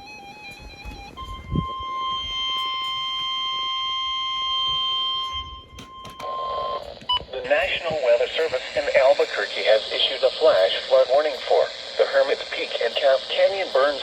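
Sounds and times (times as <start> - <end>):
high alarm tone: 0.0 - 14.0.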